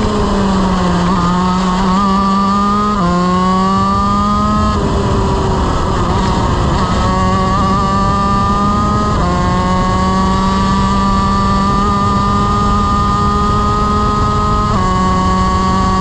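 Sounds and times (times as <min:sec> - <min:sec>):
kart engine at high revs: 0:00.0 - 0:16.0.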